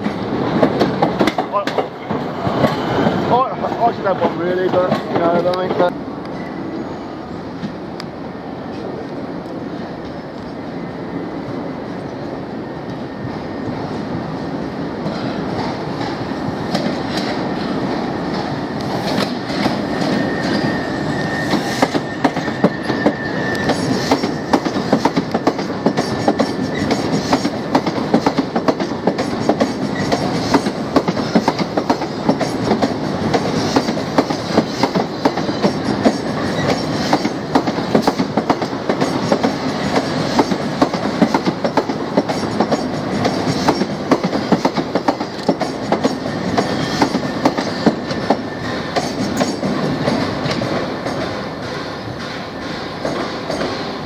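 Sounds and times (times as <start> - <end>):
train wheels clattering over rails: 0.0 - 6.5, 14.9 - 54.0.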